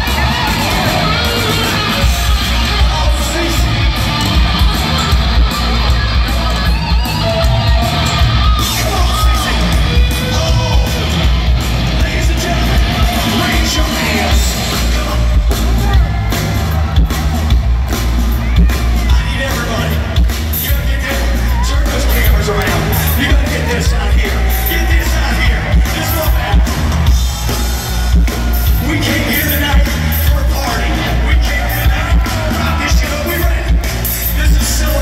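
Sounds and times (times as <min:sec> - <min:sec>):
crowd yelling: 0:00.0 - 0:35.0
live metal band playing: 0:00.0 - 0:35.0.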